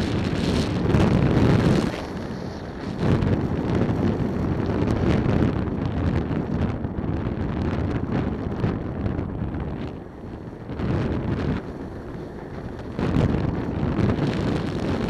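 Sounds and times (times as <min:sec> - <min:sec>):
motor scooter running: 0:00.0 - 0:15.0
wind buffeting microphone: 0:00.0 - 0:15.0.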